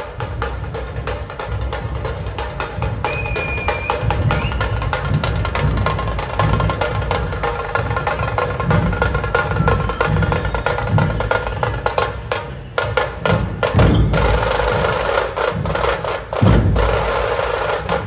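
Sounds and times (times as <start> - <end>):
rapid dense drumming: 0.0 - 18.0.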